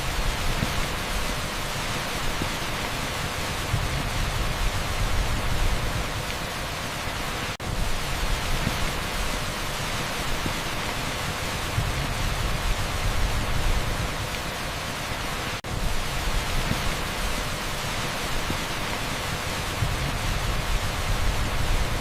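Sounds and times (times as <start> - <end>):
torrential rain on street: 0.0 - 22.0.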